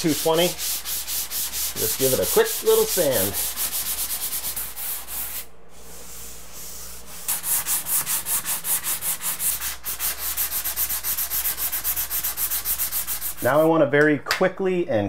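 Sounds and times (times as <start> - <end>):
hand sanding drywall: 0.0 - 13.8.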